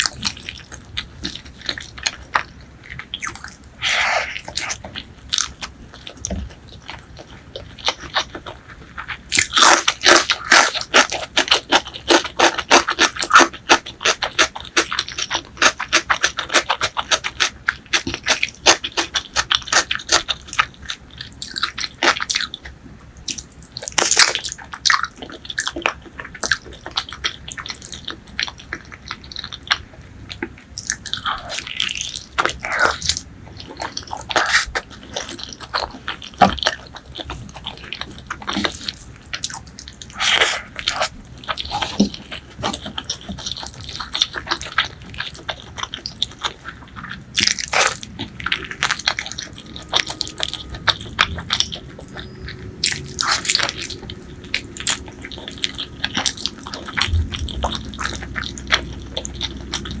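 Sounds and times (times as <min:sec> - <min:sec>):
chewing with mouth smacks: 0:00.0 - 1:00.0.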